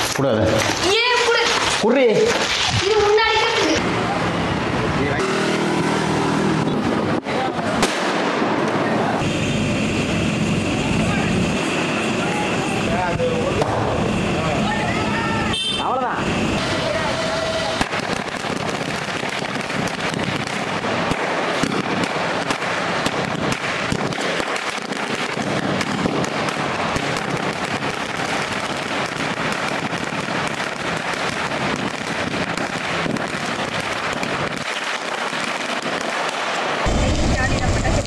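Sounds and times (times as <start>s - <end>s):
firecrackers going off: 0.0s - 38.0s.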